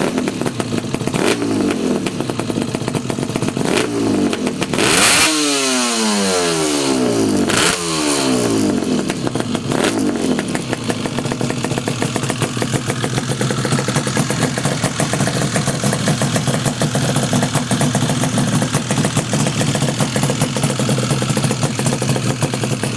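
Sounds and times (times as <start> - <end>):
two-stroke motorcycle engine revving: 0.0 - 22.9.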